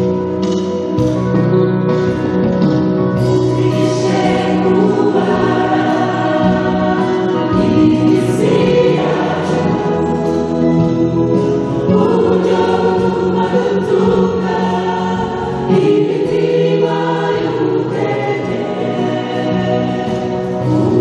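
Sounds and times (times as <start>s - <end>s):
choir singing gospel: 3.2s - 21.0s.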